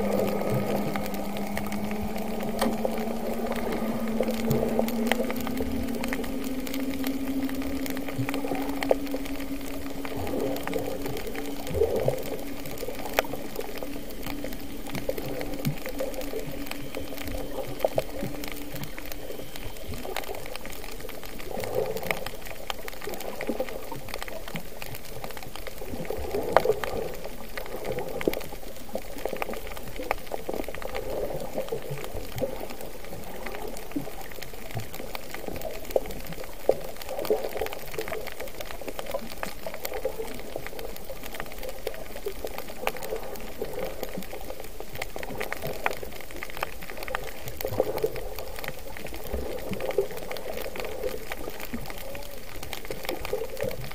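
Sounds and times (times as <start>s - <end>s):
muffled underwater sloshing and bubbling: 0.0s - 53.9s.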